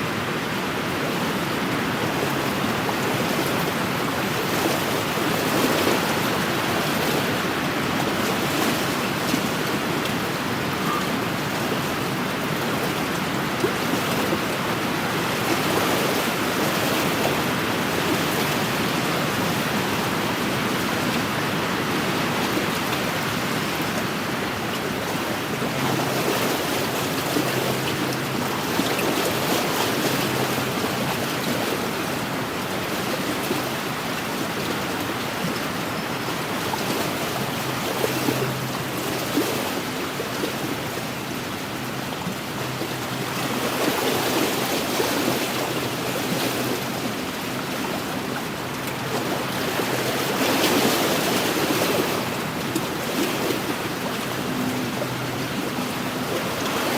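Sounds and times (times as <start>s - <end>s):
waves washing against shore: 0.0s - 56.9s.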